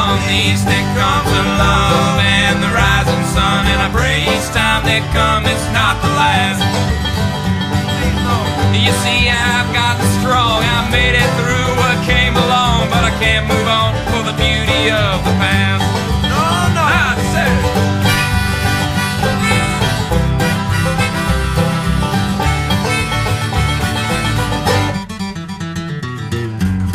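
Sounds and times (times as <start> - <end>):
bluegrass music with banjo and guitar: 0.0 - 26.9.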